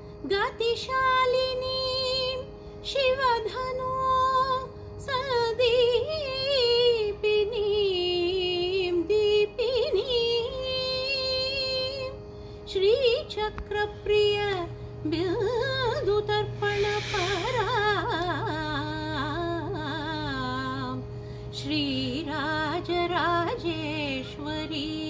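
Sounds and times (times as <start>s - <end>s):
faint steady drone: 0.0s - 25.0s
woman singing a hymn: 0.2s - 25.0s.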